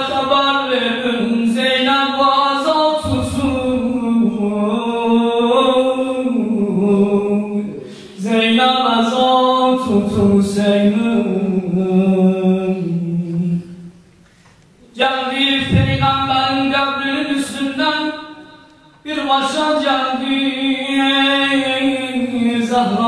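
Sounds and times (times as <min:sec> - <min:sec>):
man chanting into a microphone: 0:00.0 - 0:13.9, 0:14.8 - 0:23.0.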